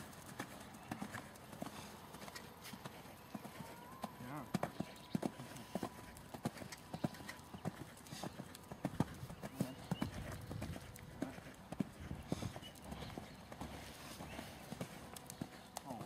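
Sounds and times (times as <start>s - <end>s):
horse hoofbeats on sand: 0.0s - 16.0s.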